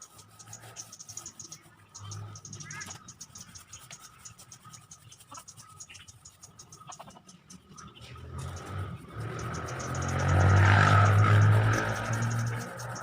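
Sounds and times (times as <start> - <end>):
insects chirping in pulses: 0.0 - 13.0.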